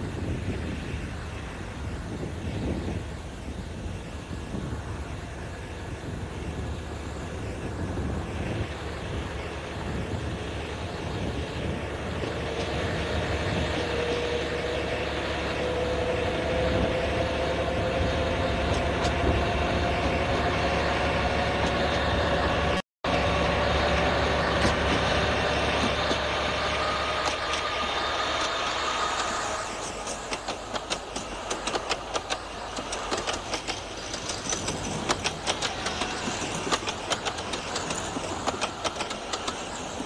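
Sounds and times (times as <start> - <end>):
diesel locomotive engine: 0.0 - 40.0.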